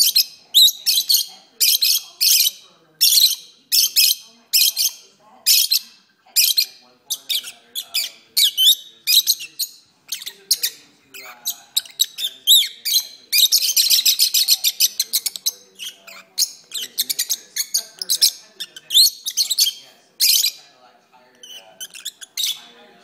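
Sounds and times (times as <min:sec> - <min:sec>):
lovebirds chirping and whistling: 0:00.0 - 0:20.7, 0:21.4 - 0:22.8.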